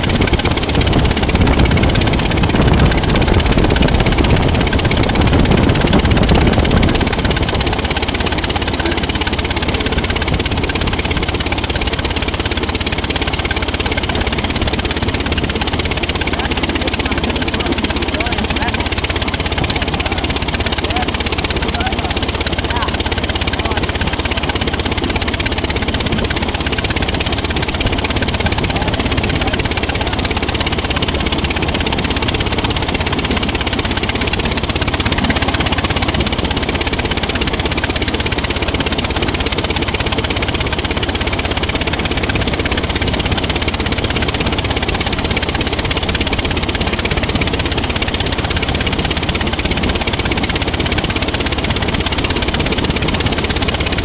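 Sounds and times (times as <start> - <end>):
track car engine running: 0.0 - 54.0.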